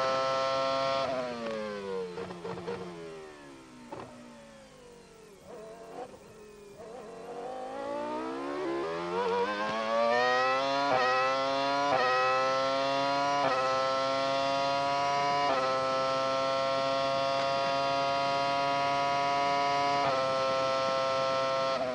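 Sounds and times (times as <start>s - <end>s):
racing car engine accelerating: 0.0s - 21.9s.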